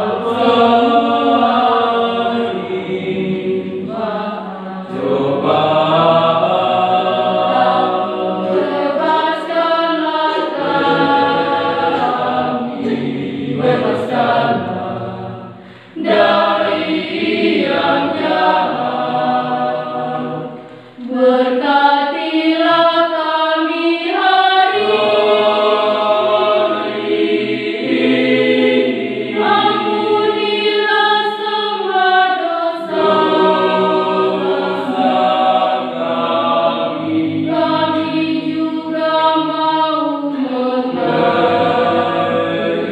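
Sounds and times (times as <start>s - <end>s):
choir singing unaccompanied: 0.0s - 42.9s.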